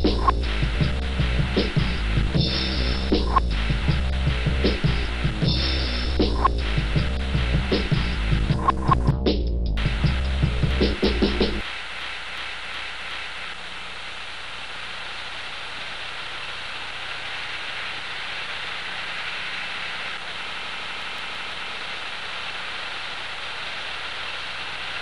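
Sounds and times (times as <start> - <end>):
steady hiss: 0.0 - 9.1, 9.7 - 25.0.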